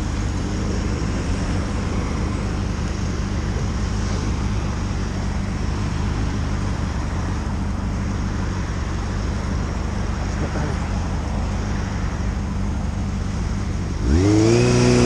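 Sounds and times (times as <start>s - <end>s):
motorcycle engine: 0.0s - 15.0s
road noise: 0.0s - 15.0s.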